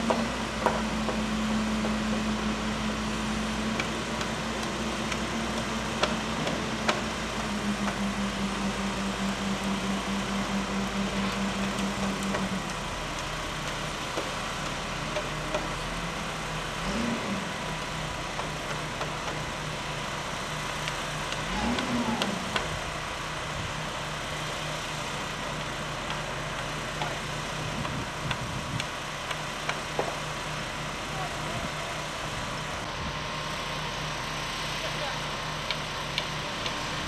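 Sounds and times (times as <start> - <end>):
engine-like hum: 0.0 - 37.0.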